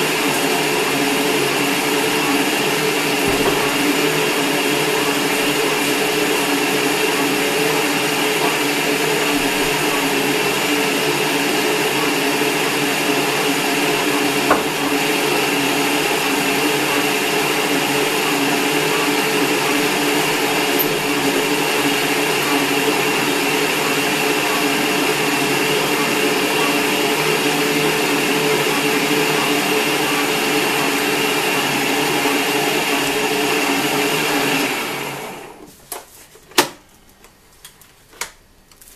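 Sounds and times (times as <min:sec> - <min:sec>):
stand mixer motor humming: 0:00.0 - 0:35.6.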